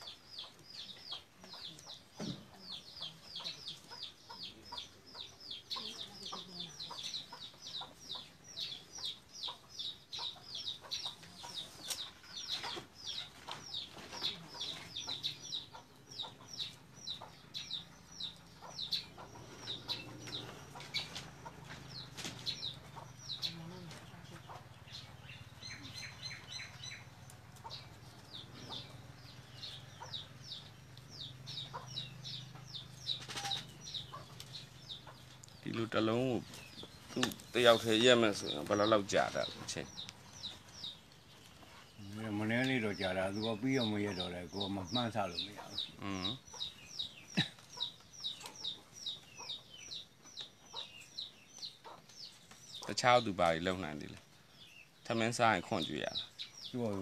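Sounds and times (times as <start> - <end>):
birds peeping: 0.0 - 57.0.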